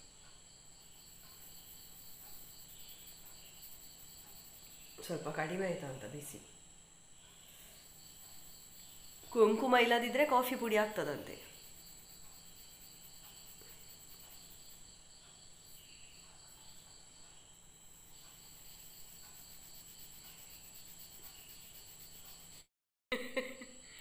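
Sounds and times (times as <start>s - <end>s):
crickets trilling: 0.0s - 22.7s.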